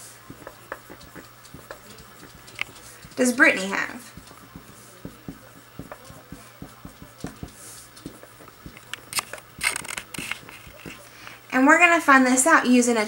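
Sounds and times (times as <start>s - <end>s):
marker writing on whiteboard: 0.0s - 11.3s.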